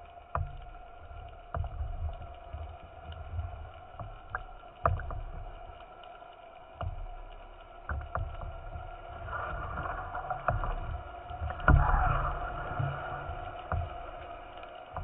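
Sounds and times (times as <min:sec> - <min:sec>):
sea water sloshing and lapping: 0:00.0 - 0:15.0.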